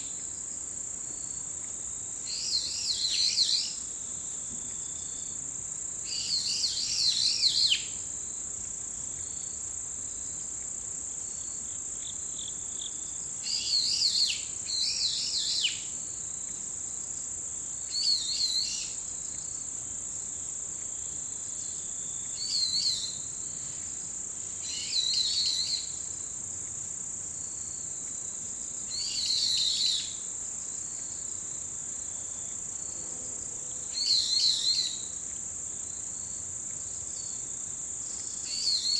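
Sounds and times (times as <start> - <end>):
insects trilling: 0.1 - 38.9.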